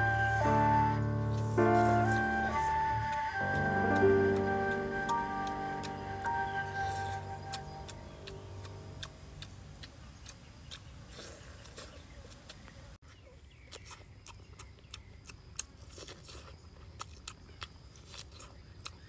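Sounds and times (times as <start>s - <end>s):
chewing with wet lip smacks: 1.8s - 12.6s, 13.6s - 19.0s.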